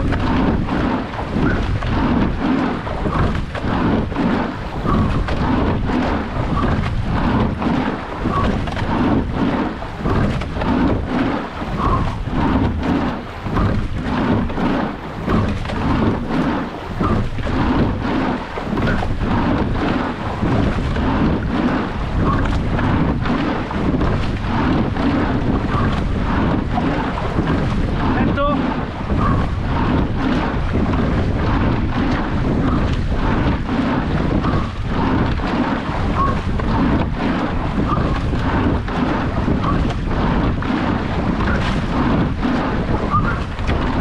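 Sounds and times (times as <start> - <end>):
water rushing along boat hull: 0.0 - 44.0
wind buffeting microphone: 0.0 - 44.0.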